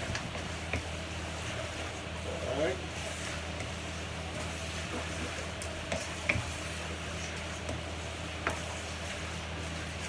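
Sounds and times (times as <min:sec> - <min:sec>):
noodles sizzling in a frying pan: 0:00.0 - 0:10.0.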